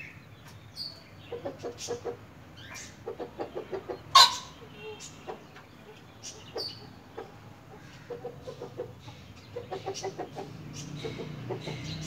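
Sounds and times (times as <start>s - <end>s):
chicken clucking: 1.2s - 12.0s.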